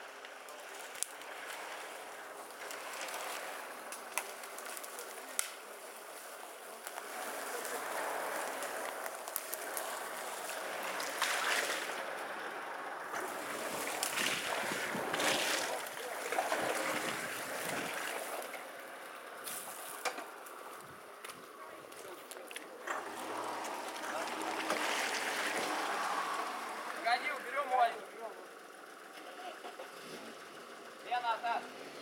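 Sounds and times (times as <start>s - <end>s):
engine running under load: 0.0s - 32.0s
tyres churning and splashing mud: 0.1s - 30.5s.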